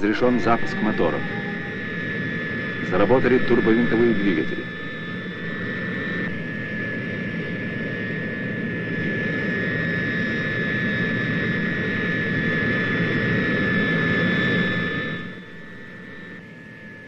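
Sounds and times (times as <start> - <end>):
turboprop engines running: 0.0 - 17.0.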